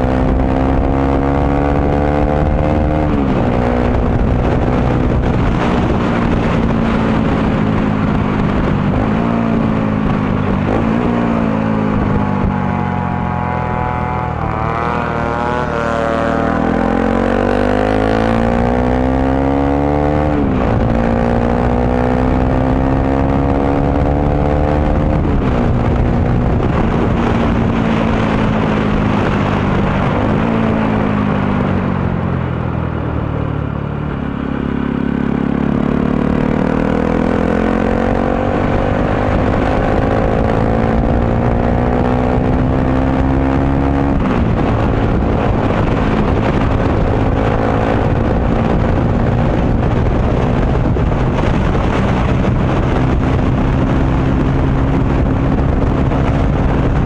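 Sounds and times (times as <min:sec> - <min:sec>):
motorcycle engine revving: 0:00.0 - 0:32.6, 0:33.5 - 0:57.0
rushing wind: 0:00.0 - 0:57.0.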